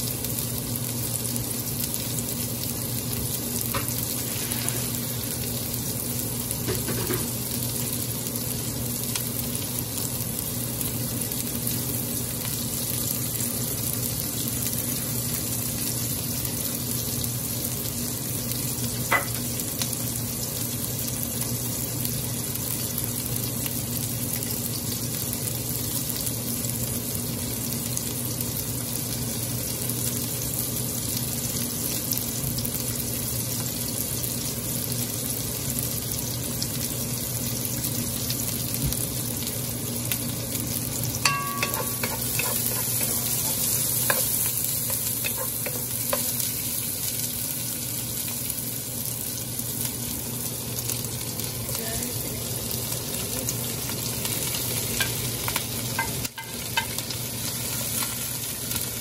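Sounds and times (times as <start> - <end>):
onions sizzling in hot oil: 0.0 - 59.0.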